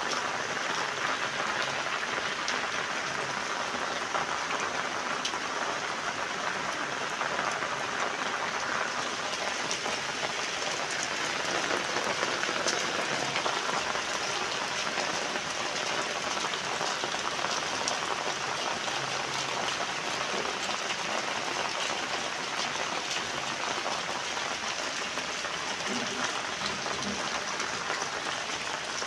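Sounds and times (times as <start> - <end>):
steady rain on wet paving: 0.0 - 29.0.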